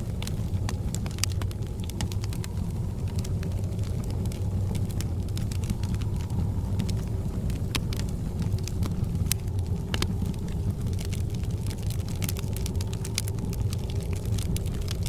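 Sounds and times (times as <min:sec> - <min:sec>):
low rumble: 0:00.0 - 0:15.0
wood fire crackling and popping: 0:00.0 - 0:15.0.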